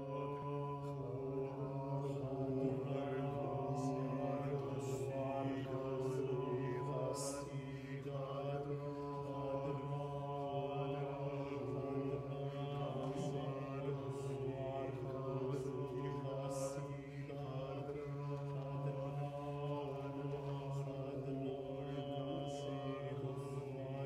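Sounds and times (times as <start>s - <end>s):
choir singing a cappella: 0.0s - 24.0s.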